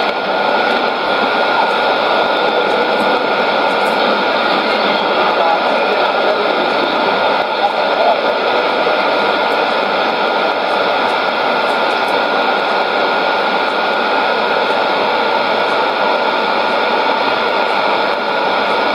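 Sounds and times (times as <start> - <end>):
shortwave radio static and hiss: 0.0 - 18.9.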